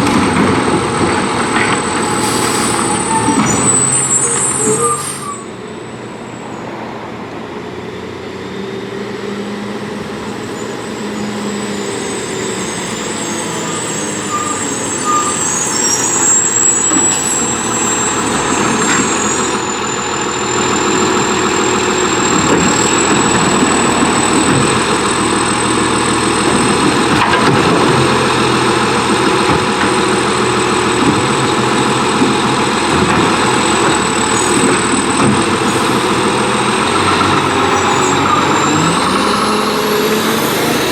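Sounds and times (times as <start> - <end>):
garbage truck diesel engine: 0.0 - 40.9.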